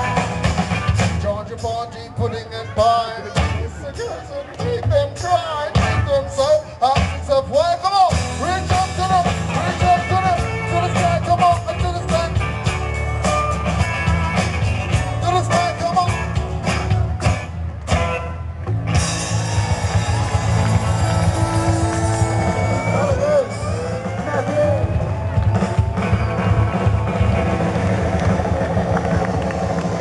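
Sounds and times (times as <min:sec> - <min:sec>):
guitars: 0:00.0 - 0:30.0
live rock band playing: 0:00.0 - 0:30.0.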